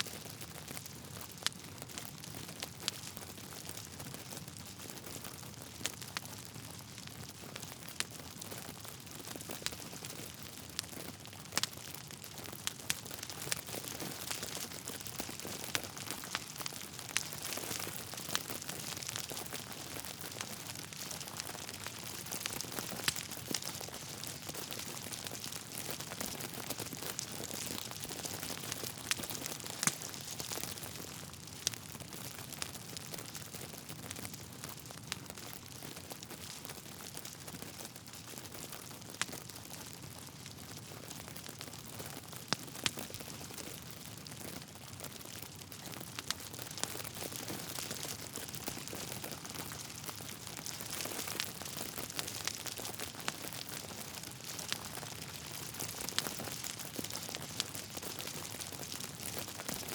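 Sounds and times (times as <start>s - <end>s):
logs crackling in fire: 0.0s - 59.9s.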